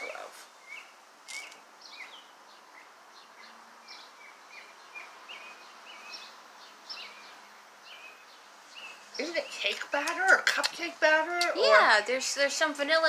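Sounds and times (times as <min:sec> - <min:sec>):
birds chirping: 0:00.0 - 0:13.0
faint background hiss: 0:00.0 - 0:13.0.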